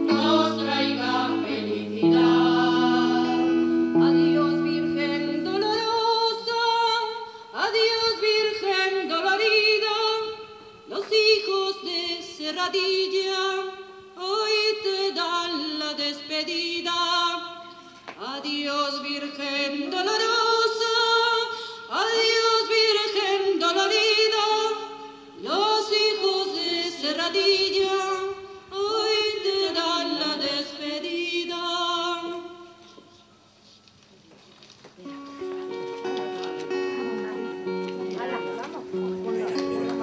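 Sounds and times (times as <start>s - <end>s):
person singing unaccompanied: 0.0s - 17.6s, 18.2s - 33.0s.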